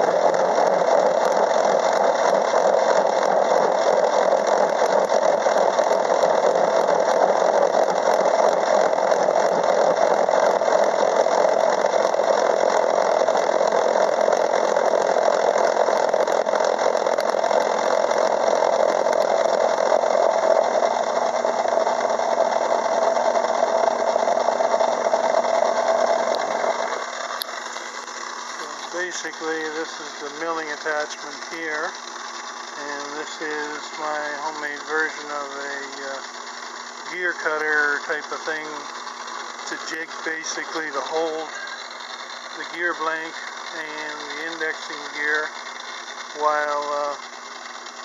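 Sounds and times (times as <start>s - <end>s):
metal lathe running: 0.0s - 48.0s.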